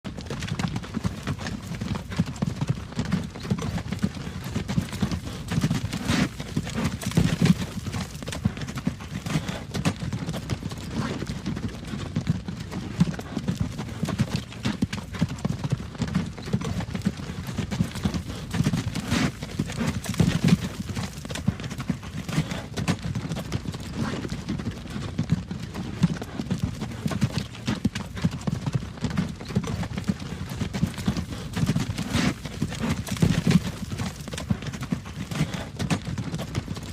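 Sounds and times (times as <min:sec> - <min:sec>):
horse hooves clip-clopping on road: 0:00.0 - 0:36.9
sharp hoof clacks: 0:00.1 - 0:24.2, 0:26.1 - 0:36.9.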